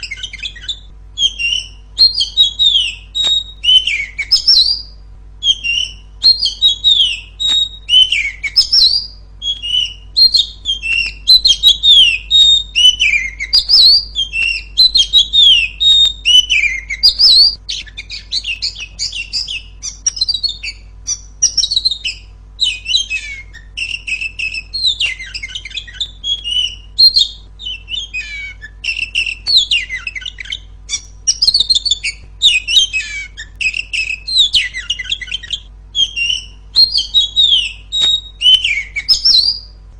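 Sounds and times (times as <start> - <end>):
bird chattering: 0.0 - 39.7
bird singing whistled notes: 0.0 - 39.8.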